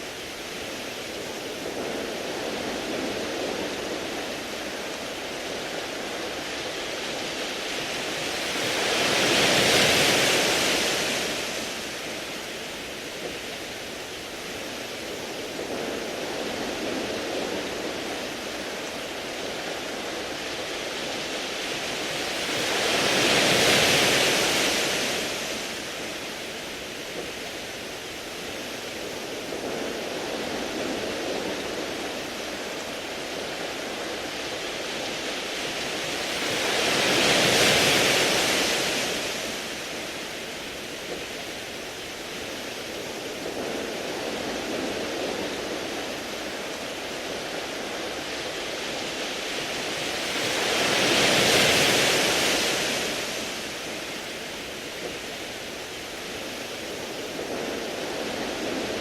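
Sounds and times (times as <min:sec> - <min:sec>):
waves washing over pebbles: 0:00.0 - 0:59.0.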